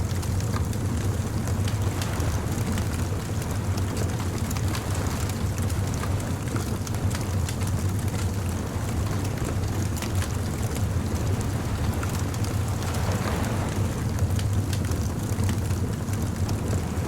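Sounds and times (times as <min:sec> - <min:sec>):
bonfire crackling: 0:00.0 - 0:17.0
low rumble of fire: 0:00.0 - 0:17.0.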